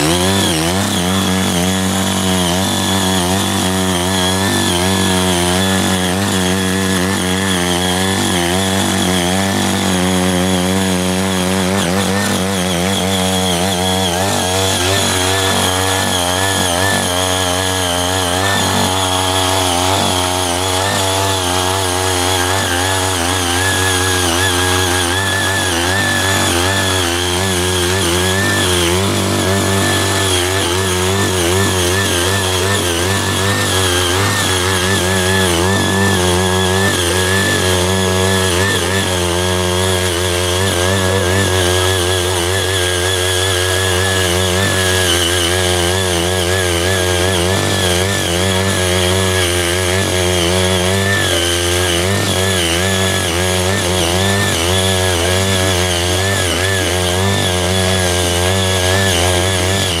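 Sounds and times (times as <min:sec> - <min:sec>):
small tiller engine running: 0:00.0 - 1:00.0
tines breaking up soil: 0:00.0 - 1:00.0.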